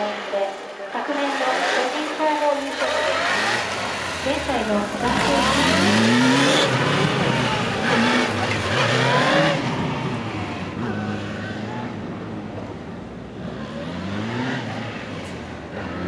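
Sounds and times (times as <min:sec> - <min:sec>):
motorcycle engine revving: 0:01.2 - 0:16.0.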